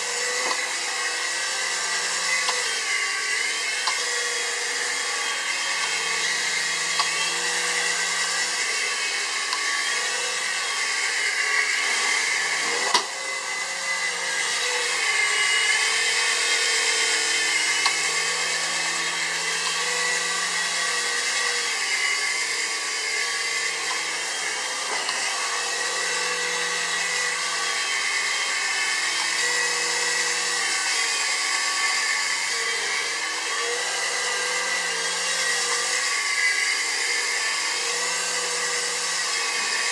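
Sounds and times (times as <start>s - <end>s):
toy helicopter motors whining: 0.0s - 39.9s.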